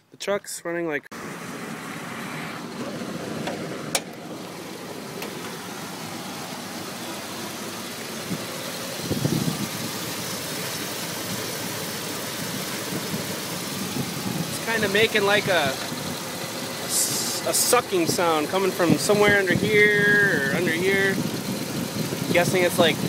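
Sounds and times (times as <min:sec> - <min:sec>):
engine sucking noise: 0:01.1 - 0:23.0
truck engine idling rough: 0:02.6 - 0:23.0.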